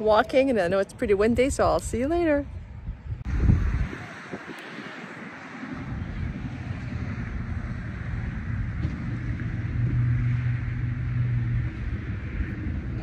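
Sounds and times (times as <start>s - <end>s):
wind rumbling on microphone: 0.0s - 13.0s
low engine hum: 2.4s - 13.0s.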